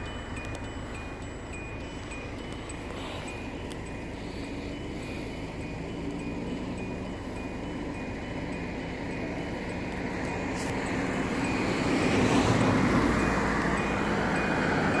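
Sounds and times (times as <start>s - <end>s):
motor vehicle rumble and hiss: 0.0s - 15.0s.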